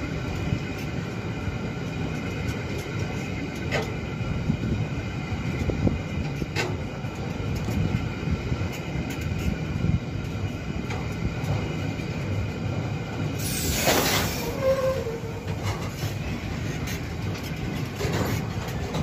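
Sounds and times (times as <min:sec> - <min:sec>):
rumble of wheels on rails: 0:00.0 - 0:19.0.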